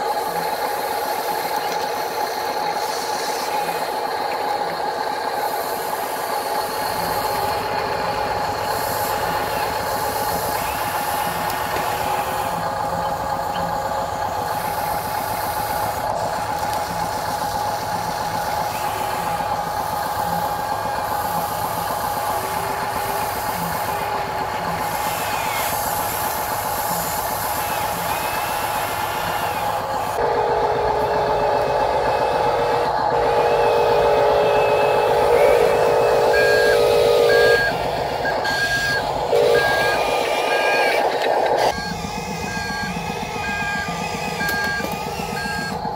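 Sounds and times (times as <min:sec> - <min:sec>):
electric motor whine: 0:05.6 - 0:45.9.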